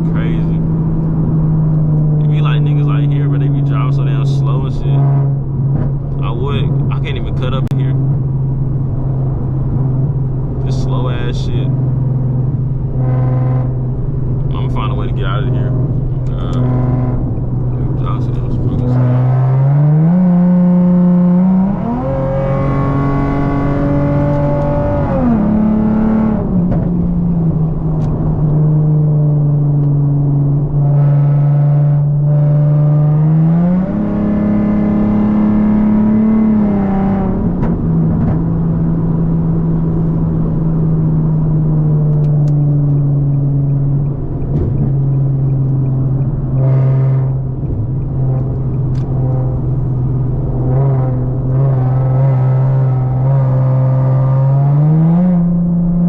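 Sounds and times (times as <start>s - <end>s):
loud car engine driving: 0.0s - 56.0s.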